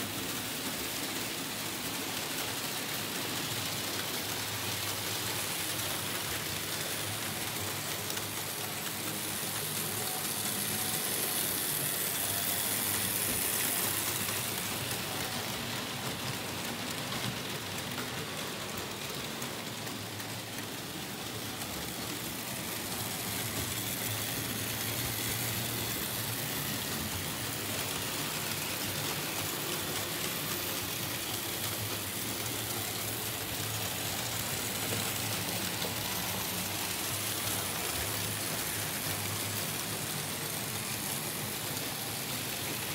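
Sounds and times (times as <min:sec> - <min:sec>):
model train wheels rattling on rails: 0:00.0 - 0:42.9.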